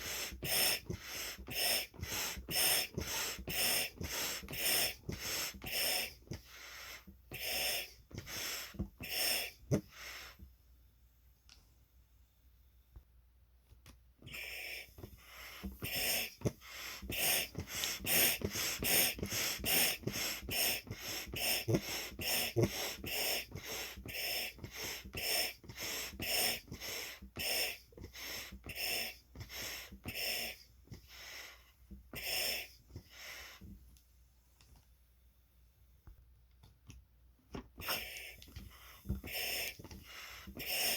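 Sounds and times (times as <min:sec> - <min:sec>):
balloon being inflated: 0:00.0 - 0:10.5, 0:14.2 - 0:33.8, 0:37.6 - 0:40.9.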